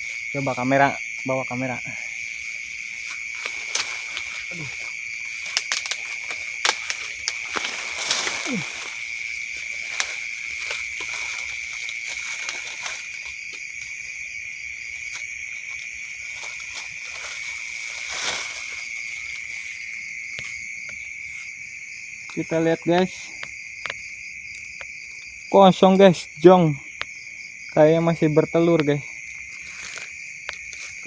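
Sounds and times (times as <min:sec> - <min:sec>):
rustling twigs and leaves: 0:00.0 - 0:26.2, 0:28.6 - 0:31.0
night insects chirring: 0:00.0 - 0:31.0.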